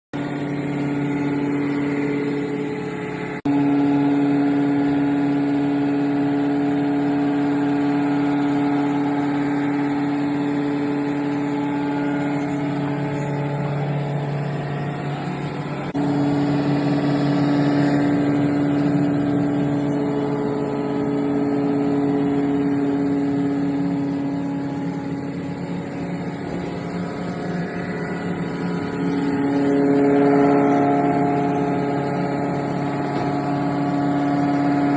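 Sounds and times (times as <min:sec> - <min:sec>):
grinding machine humming: 0:00.1 - 0:34.9.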